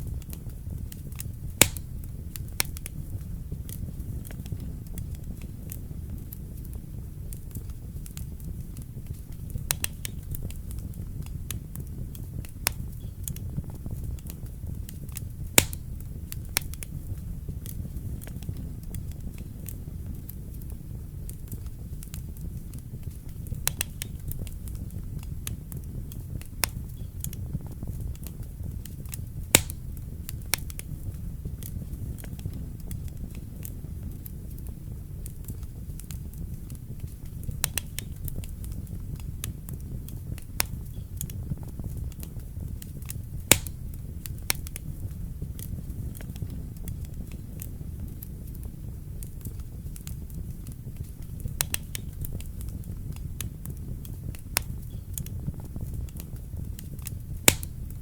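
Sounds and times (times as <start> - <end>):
fire burning in fireplace: 0.0 - 58.0.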